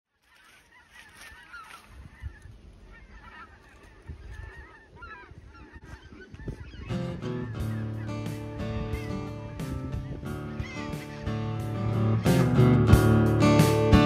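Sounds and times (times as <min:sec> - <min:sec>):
geese honking: 0:00.1 - 0:12.8.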